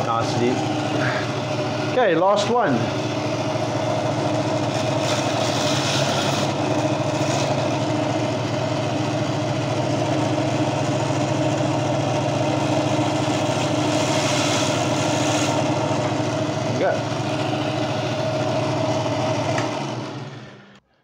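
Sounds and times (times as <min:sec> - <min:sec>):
bandsaw motor hum: 0:00.0 - 0:21.0.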